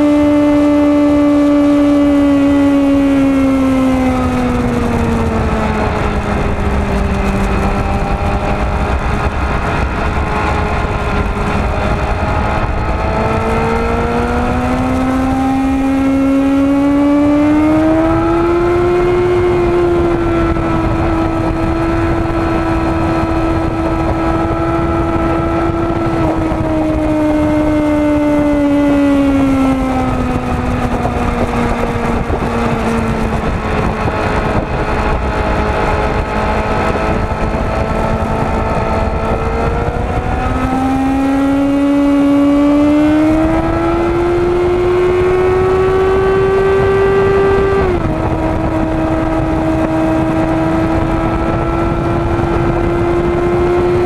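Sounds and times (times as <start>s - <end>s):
motorcycle engine at high revs: 0.0s - 54.0s
wind rush: 0.0s - 54.0s.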